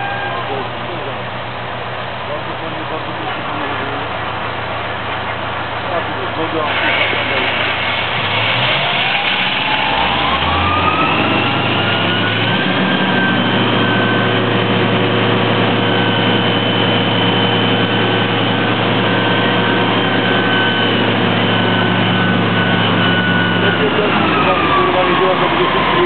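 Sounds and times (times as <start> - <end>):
fire pump engine whine and drone: 0.0 - 26.0.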